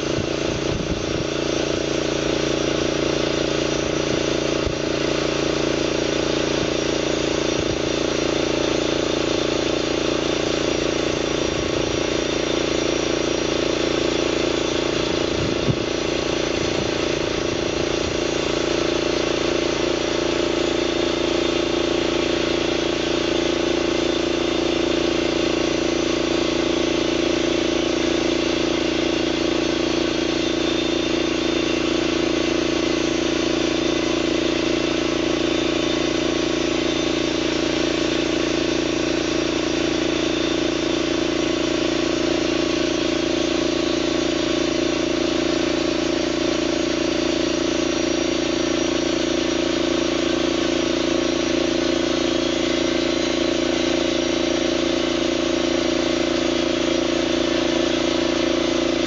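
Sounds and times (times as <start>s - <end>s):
bandsaw mill engine running: 0.0s - 59.0s.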